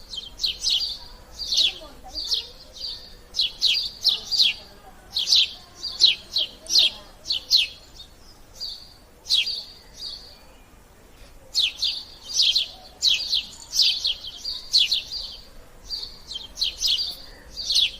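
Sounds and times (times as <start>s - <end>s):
sparrow chirping: 0.0s - 17.9s.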